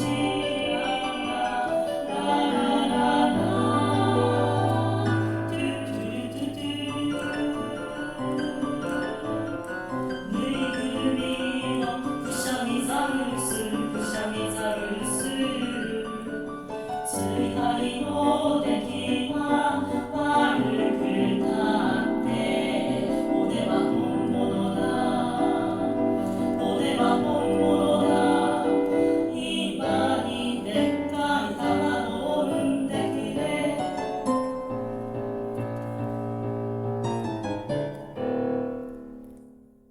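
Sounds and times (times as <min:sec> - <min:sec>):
choir singing: 0:00.0 - 0:34.5
piano accompaniment: 0:00.0 - 0:39.9.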